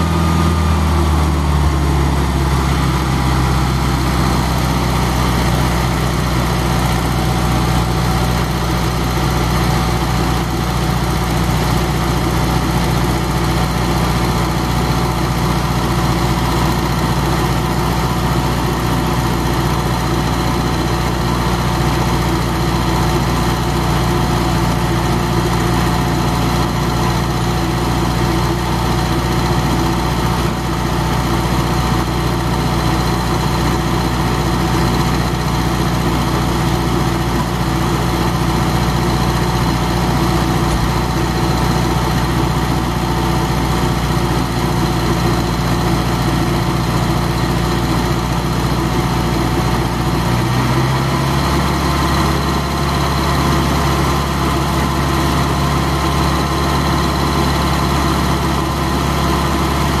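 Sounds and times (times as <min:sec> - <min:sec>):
stump grinder engine running: 0:00.0 - 1:00.0.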